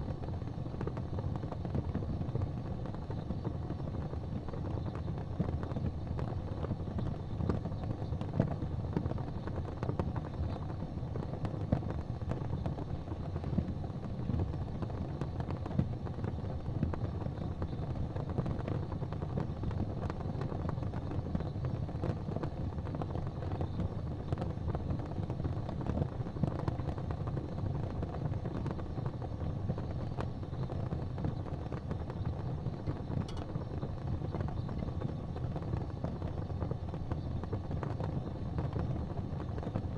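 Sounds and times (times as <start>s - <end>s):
fire crackles and pops: 0.0s - 39.9s
fire rumbling in fireplace: 0.0s - 39.9s.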